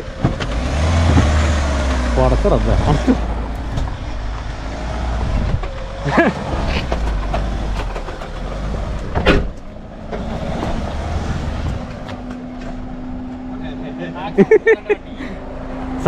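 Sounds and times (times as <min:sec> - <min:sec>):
engine low rumble: 0:00.0 - 0:16.0.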